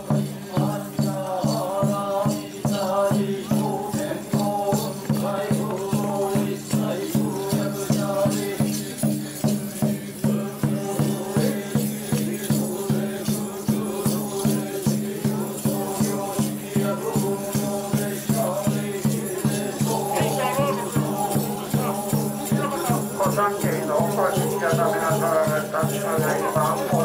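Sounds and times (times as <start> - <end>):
steady percussive beat: 0.0 - 27.0
group chanting: 0.1 - 9.0, 10.0 - 27.0.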